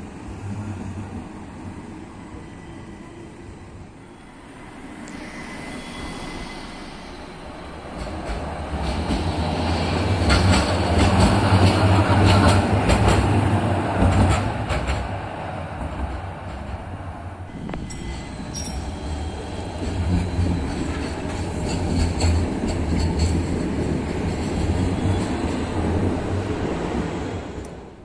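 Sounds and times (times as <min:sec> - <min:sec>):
tram passing rumble: 0:00.0 - 0:28.0.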